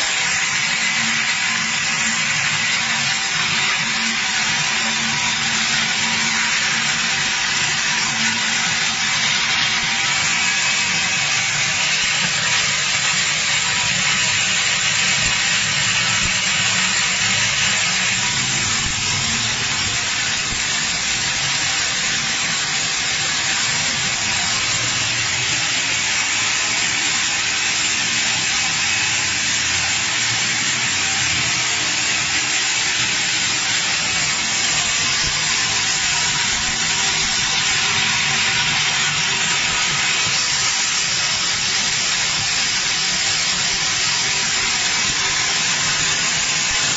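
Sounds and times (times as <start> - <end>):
grain sorter machine hissing: 0.0 - 46.9
seeds streaming into a bucket: 0.0 - 46.9.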